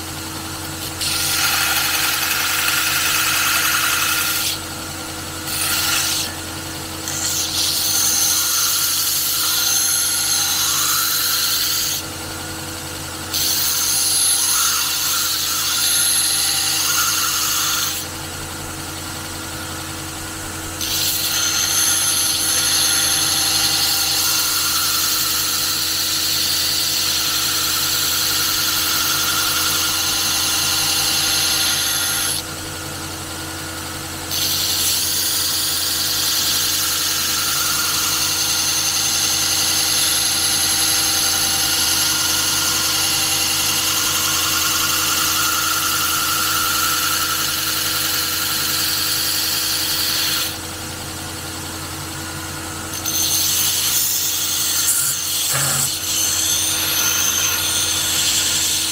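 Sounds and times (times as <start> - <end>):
power tool high whine: 0.0 - 58.9.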